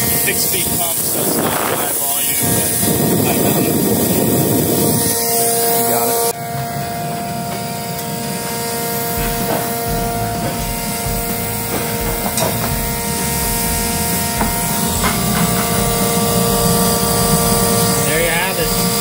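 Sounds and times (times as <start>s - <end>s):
burner motor and pump humming: 0.0s - 19.0s.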